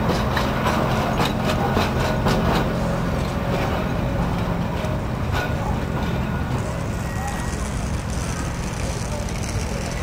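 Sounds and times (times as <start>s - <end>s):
electric tram humming: 0.0s - 10.0s.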